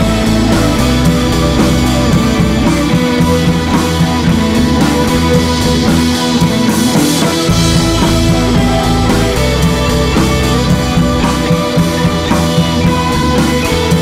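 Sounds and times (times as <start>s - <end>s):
deep bass: 0.0s - 14.0s
rock music: 0.0s - 14.0s.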